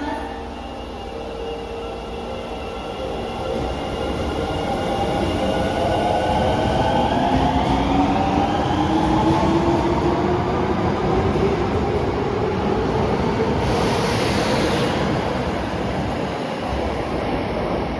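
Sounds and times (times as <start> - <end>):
subway train motors whining: 0.0 - 17.9.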